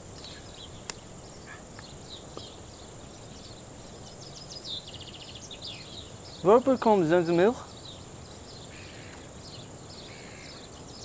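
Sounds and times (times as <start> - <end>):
bird trill: 0.0 - 11.0
small birds chirping: 0.0 - 11.0
steady hiss: 0.0 - 11.0.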